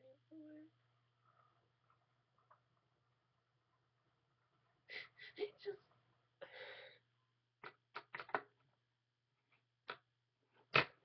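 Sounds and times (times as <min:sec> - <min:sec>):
faint low hum: 0:00.0 - 0:10.7.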